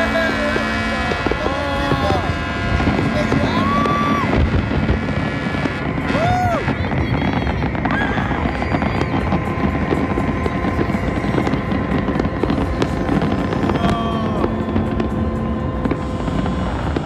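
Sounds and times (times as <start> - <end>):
fireworks bursting and crackling: 0.0 - 17.0
steady rumble: 0.0 - 17.0.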